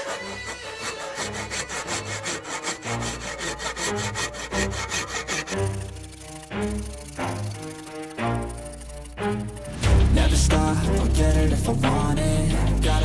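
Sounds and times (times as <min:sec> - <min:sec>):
hand saw cutting wood: 0:00.0 - 0:13.0.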